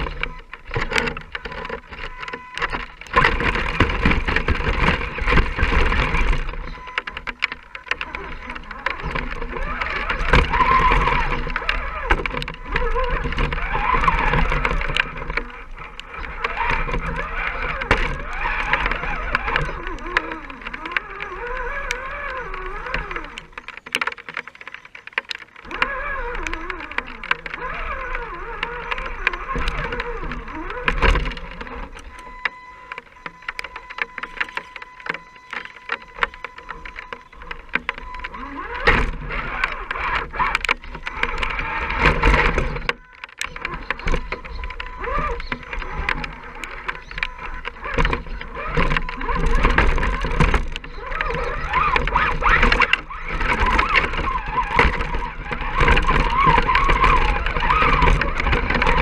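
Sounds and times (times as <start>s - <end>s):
clicks and knocks on rough ground: 0.0s - 59.0s
rc truck motor whine: 0.0s - 59.0s.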